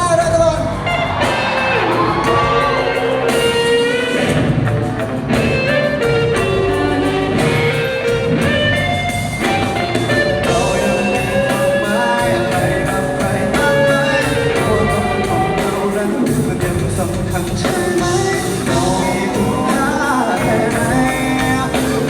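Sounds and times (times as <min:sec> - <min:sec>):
guitar melody with sliding notes: 0:00.0 - 0:22.0
rock band playing: 0:00.0 - 0:22.0.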